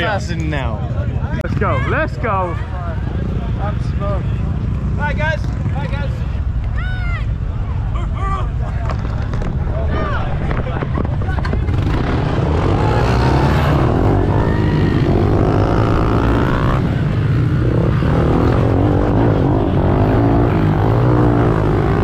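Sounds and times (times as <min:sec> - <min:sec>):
pit bike engines revving: 0:00.0 - 0:22.0.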